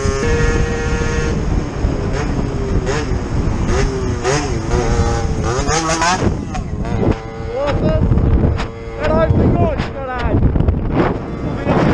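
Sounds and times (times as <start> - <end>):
motorcycle engine running: 0.0 - 11.9
wind on microphone: 0.0 - 11.9.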